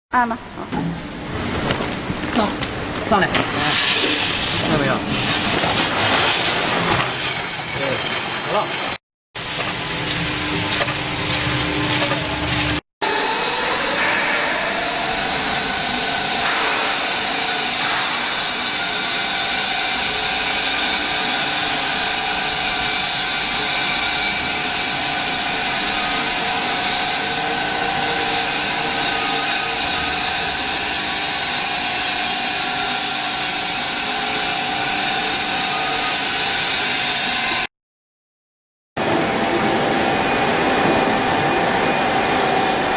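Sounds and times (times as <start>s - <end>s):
machinery whirring: 1.9s - 37.7s.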